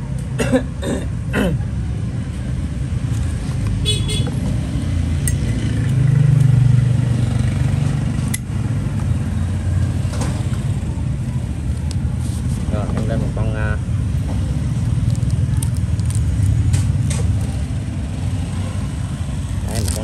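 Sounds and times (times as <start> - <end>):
street traffic: 0.0 - 20.0
vehicle passing: 3.1 - 20.0.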